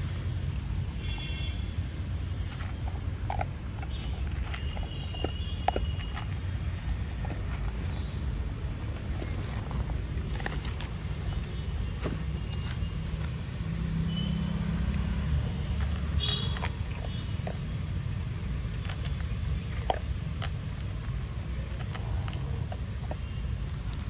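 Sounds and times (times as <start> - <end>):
dog crunching kibble: 2.1 - 13.5, 14.4 - 24.0.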